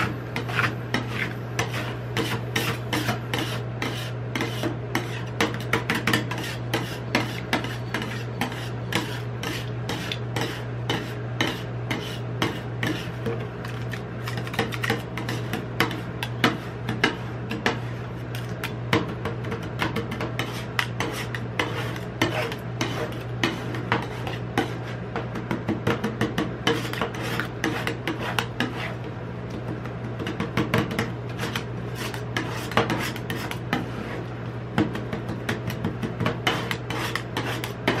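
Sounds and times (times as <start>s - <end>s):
spatulas scraping ice cream: 0.0s - 25.2s, 25.9s - 29.1s, 30.3s - 38.0s
steady low hum: 0.0s - 38.0s.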